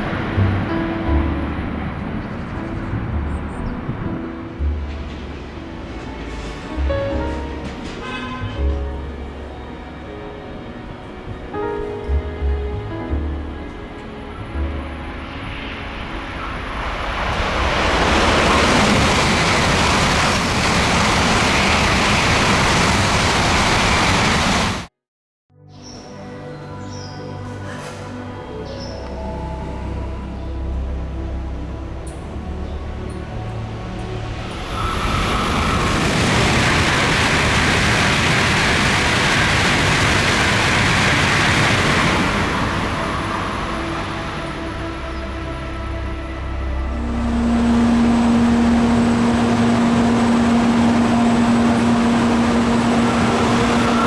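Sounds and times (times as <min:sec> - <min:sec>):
high-speed train rushing past: 0:00.0 - 0:24.9, 0:32.8 - 0:54.0.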